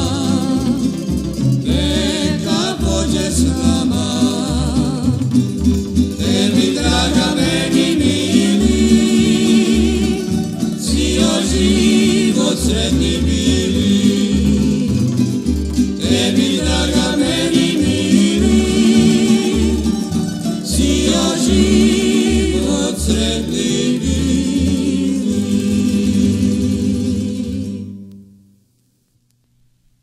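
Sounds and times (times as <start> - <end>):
group singing: 0.0 - 28.1
bass line: 0.0 - 28.2
plucked strings: 0.0 - 28.6.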